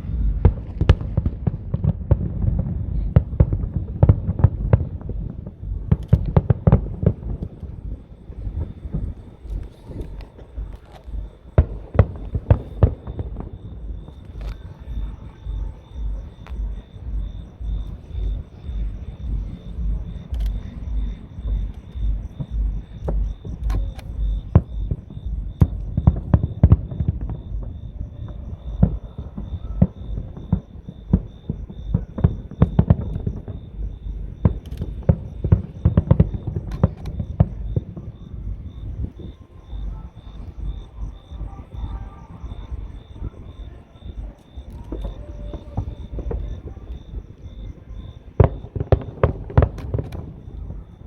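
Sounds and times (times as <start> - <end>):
fireworks bangs and crackles: 0.0 - 51.0
steady low pulsing: 0.0 - 51.0.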